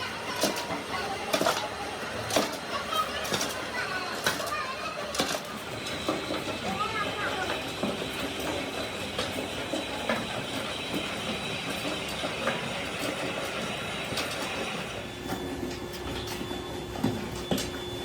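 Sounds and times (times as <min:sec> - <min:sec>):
factory machinery noise: 0:00.0 - 0:18.0
clicks and clatter: 0:00.3 - 0:16.4.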